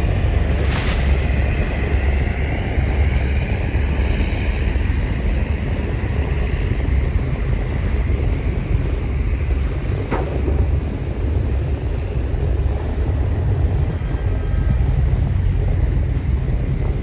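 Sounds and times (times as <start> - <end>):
boat engine droning: 0.0 - 17.0
wind and water rushing: 0.0 - 17.0.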